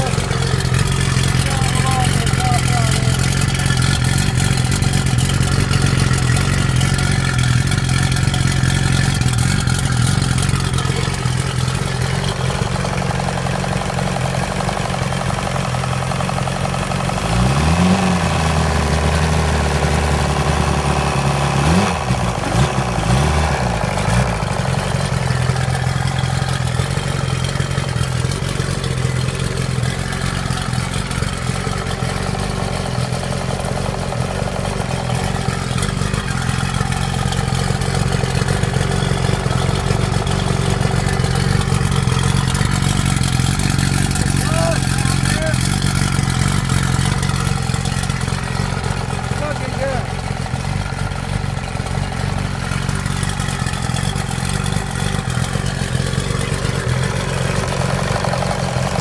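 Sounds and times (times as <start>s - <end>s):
outboard motor idling: 0.0s - 59.0s
outboard motor revving: 0.0s - 59.0s.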